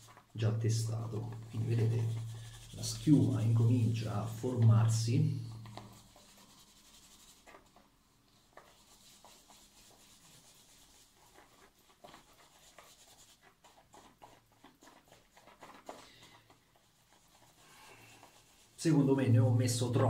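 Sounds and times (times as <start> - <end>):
shaving brush swishing in bowl: 0.0 - 20.0.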